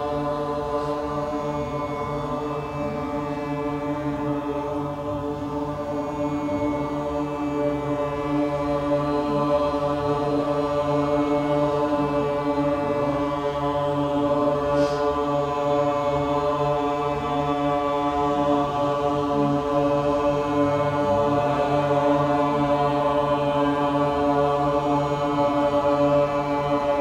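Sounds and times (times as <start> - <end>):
group chanting in unison: 0.0 - 27.0.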